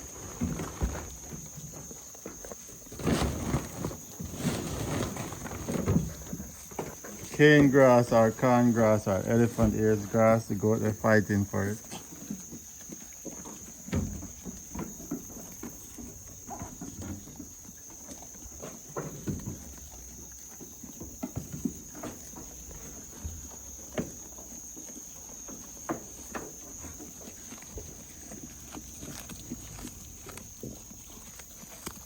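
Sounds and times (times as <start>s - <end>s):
grass rustling: 0.0s - 32.0s.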